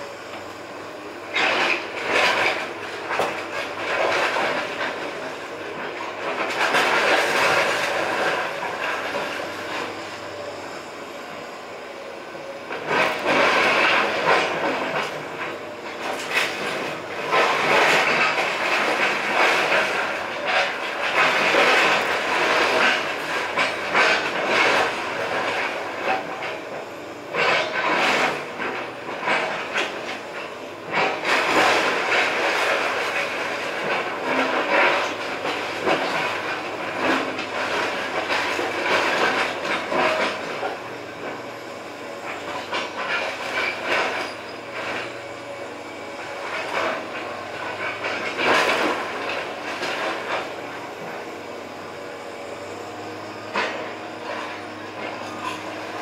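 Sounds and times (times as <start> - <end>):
excavator engine humming: 0.0 - 56.0.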